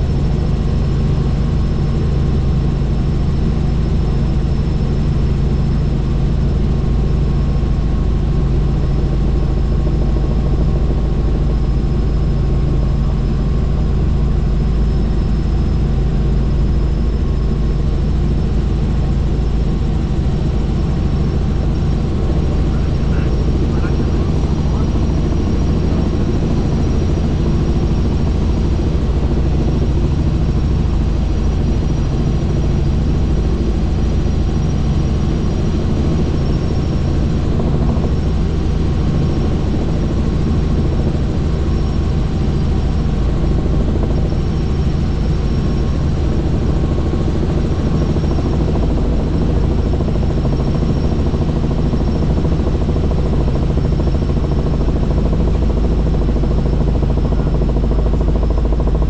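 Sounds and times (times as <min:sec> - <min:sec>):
helicopter rotor and turbine drone: 0:00.0 - 0:59.0.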